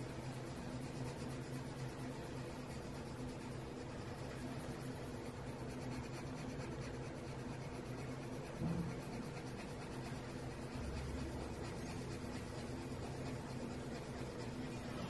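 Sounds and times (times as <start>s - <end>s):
low steady hum: 0.0s - 15.0s
pencil scratching on paper: 0.0s - 15.0s.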